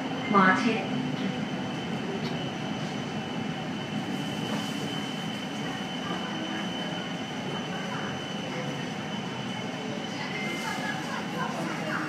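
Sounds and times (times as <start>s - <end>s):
train carriage rumble: 0.0s - 12.0s
train high whine: 0.0s - 12.0s.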